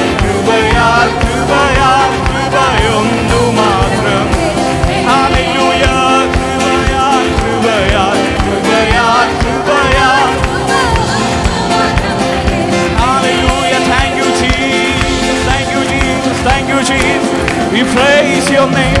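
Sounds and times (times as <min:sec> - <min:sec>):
person singing melody: 0:00.0 - 0:19.0
steady drum beat: 0:00.0 - 0:19.0.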